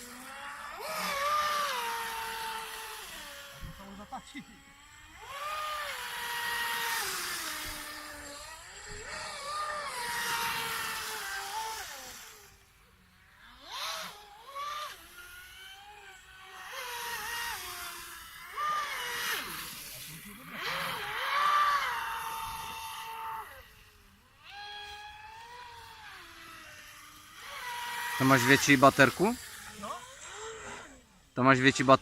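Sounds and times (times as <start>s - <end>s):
electric boat motor whining: 0.0s - 32.0s.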